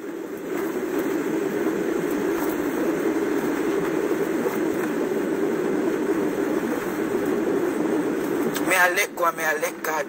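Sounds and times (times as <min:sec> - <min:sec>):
car cabin road and engine noise: 0:00.0 - 0:10.0.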